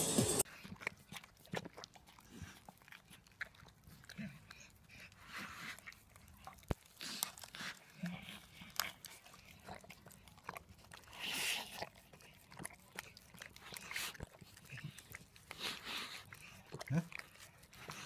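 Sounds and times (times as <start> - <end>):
dog chewing and lip-smacking: 0.4 - 18.0
dog slurping: 0.4 - 18.0.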